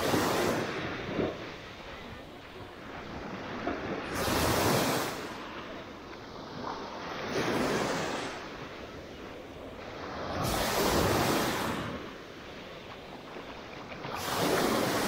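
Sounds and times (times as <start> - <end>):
small waves washing onto sand: 0.0 - 15.0.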